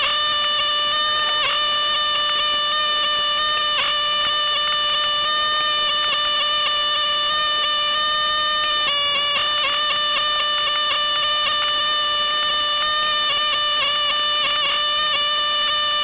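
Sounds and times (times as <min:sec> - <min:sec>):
steady buzzing drone: 0:00.0 - 0:16.0.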